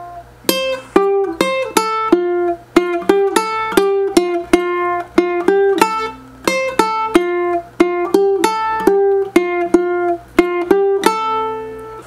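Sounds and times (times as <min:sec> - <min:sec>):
plucked ukulele melody: 0:00.0 - 0:12.0.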